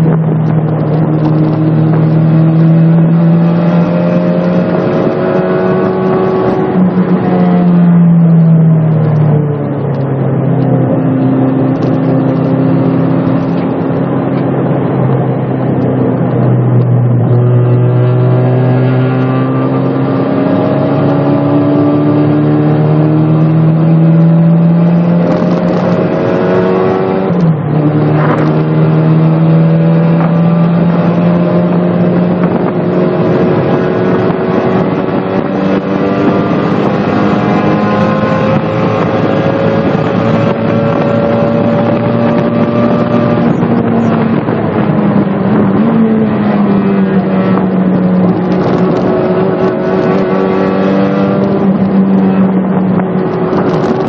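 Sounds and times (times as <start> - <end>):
car engine pulling hard: 0.0 - 54.0.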